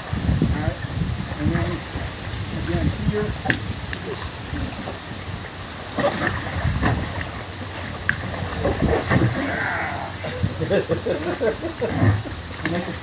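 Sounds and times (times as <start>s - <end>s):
water splashing around kayak: 0.0s - 13.0s.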